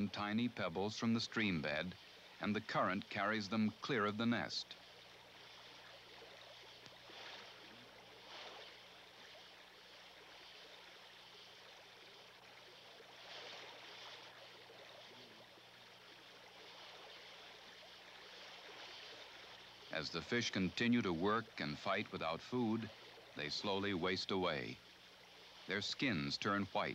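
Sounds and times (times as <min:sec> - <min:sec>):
stream rushing over gravel: 0:00.0 - 0:15.4, 0:16.5 - 0:24.8, 0:25.6 - 0:26.9
steady low hum: 0:00.0 - 0:26.9.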